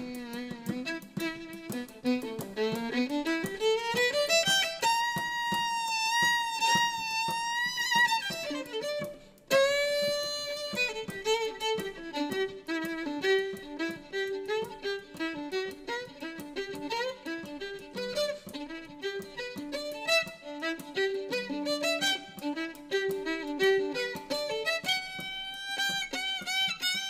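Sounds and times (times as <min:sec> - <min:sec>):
violin playing: 0:00.0 - 0:27.0.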